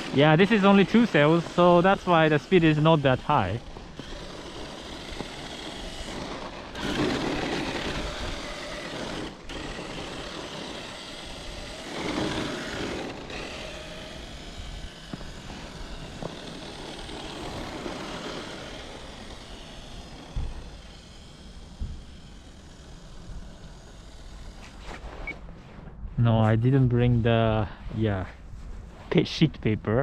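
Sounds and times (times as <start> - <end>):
toy truck motor whirring: 0.0 - 25.3
tyres churning snow: 0.0 - 25.7.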